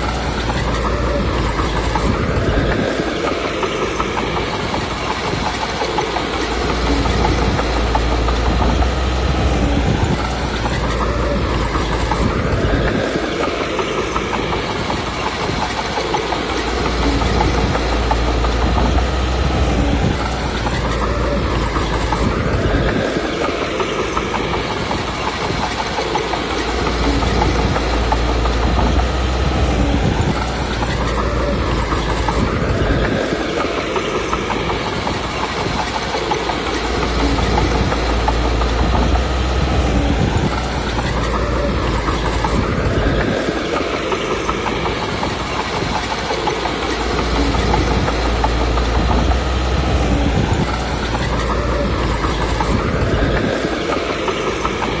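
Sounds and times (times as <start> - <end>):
bulldozer diesel engine running: 0.0 - 55.0
steel tracks clattering: 0.0 - 55.0.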